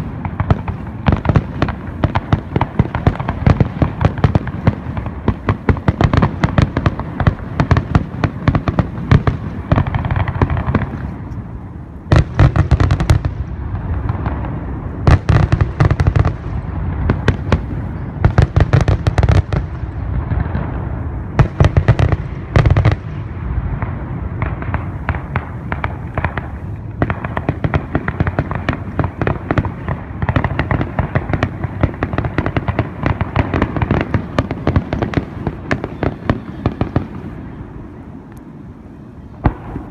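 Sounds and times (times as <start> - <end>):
fireworks crackling and popping: 0.0 - 38.6, 39.2 - 39.9
fireworks booming bangs: 0.0 - 39.9.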